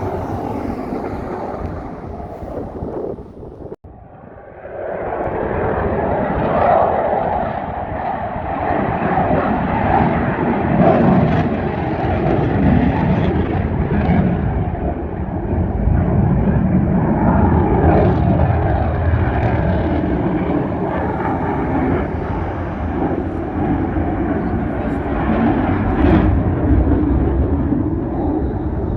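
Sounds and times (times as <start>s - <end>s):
jet aircraft engine roar: 0.0s - 28.9s.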